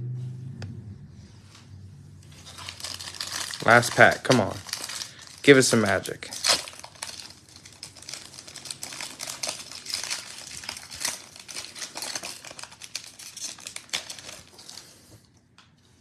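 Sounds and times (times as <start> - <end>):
foil wrapper crinkling and tearing: 2.3 - 15.3.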